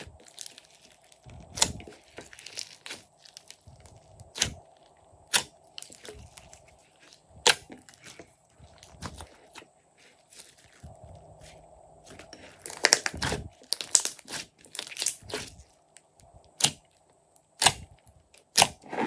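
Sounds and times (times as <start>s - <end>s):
slime squelching and crackling: 0.0s - 19.0s.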